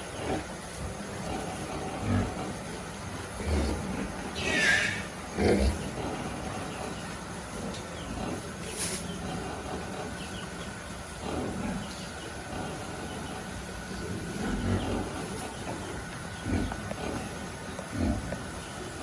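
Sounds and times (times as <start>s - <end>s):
pigs grunting: 0.0s - 19.0s
steady background hiss: 0.0s - 19.0s.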